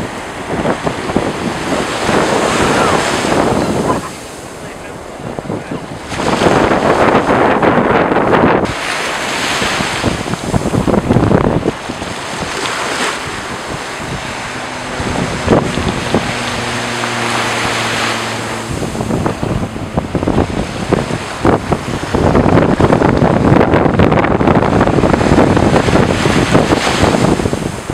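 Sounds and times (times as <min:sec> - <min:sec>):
ocean surf washing up beach: 0:00.0 - 0:27.9
wind buffeting microphone: 0:00.0 - 0:27.9.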